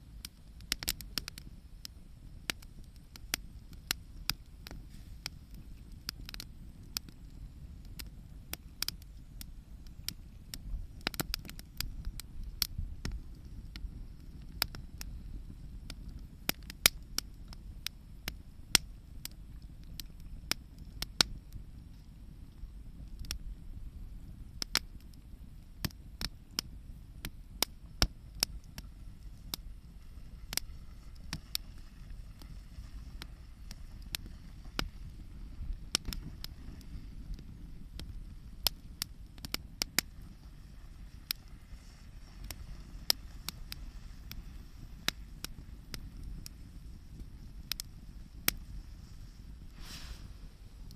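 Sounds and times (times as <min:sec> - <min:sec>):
campfire crackling: 0:00.0 - 0:50.9
fire pops and snaps: 0:00.0 - 0:50.9
low steady rumble: 0:00.0 - 0:50.9.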